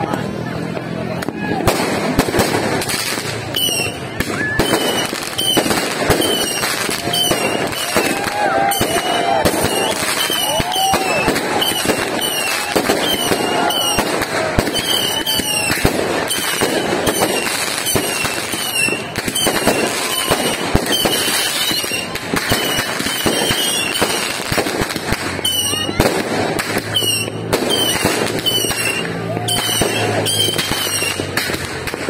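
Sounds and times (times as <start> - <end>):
fireworks bangs and crackling: 0.0 - 32.0
fireworks falling whistles: 1.6 - 32.0.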